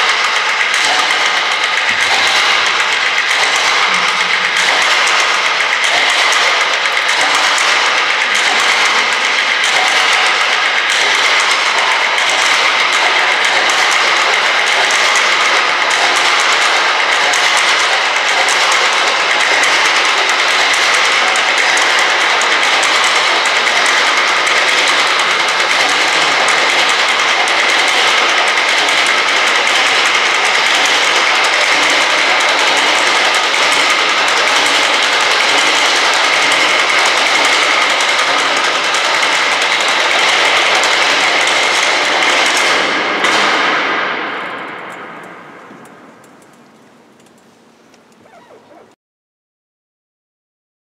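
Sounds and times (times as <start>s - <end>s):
percussion rattling on tabletop: 0.0s - 43.8s.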